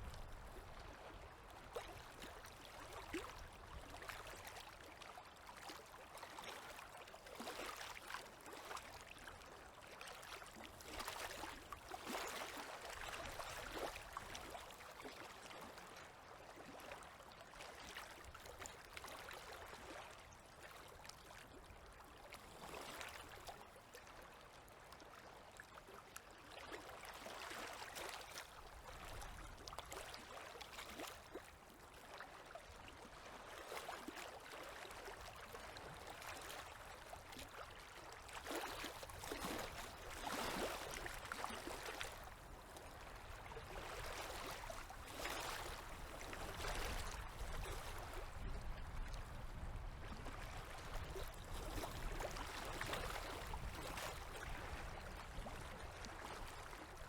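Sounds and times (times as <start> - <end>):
waves lapping against shore: 0.0 - 57.0.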